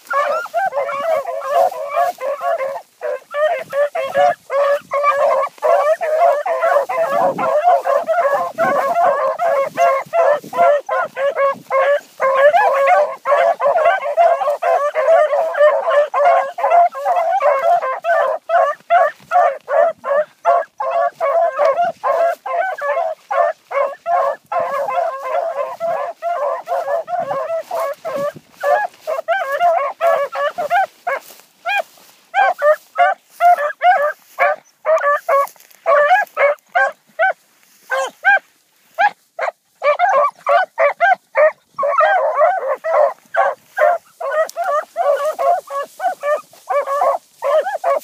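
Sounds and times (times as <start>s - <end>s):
hounds baying: 0.0s - 48.0s.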